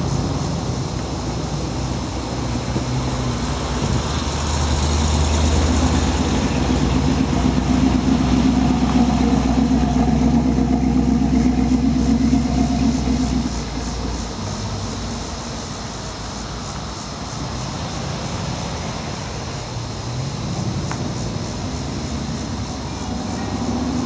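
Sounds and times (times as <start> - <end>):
car engine low rumble: 0.0 - 24.0.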